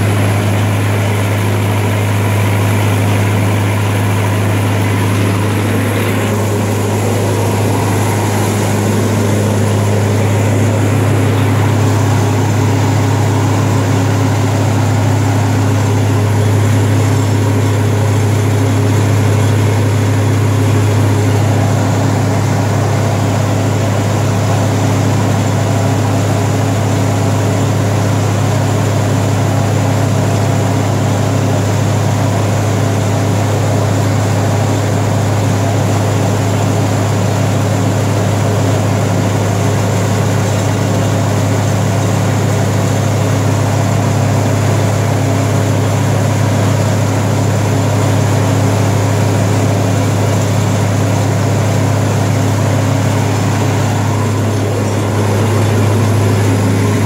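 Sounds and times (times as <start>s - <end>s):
welder engine droning: 0.0s - 57.0s.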